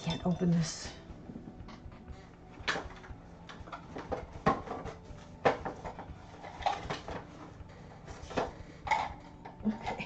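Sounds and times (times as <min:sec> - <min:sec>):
objects knocking and clattering: 0:00.0 - 0:10.0.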